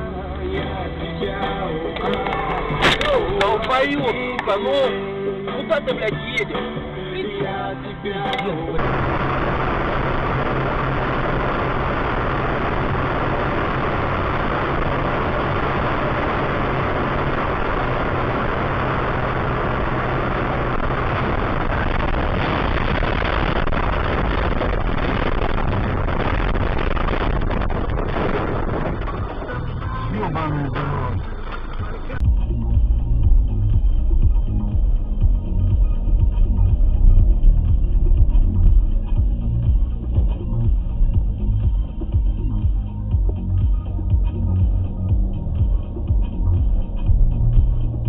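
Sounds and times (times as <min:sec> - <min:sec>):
car engine hum: 0:00.0 - 0:48.0
road and tyre noise: 0:00.0 - 0:48.0.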